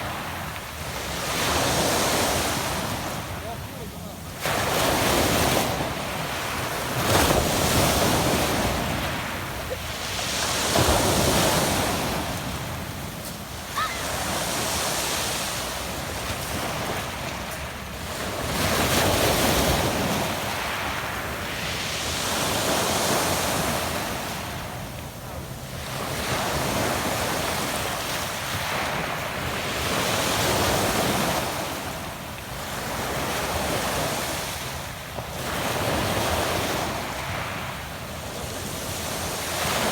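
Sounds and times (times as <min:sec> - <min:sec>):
waves washing onto pebble beach: 0:00.0 - 0:39.9.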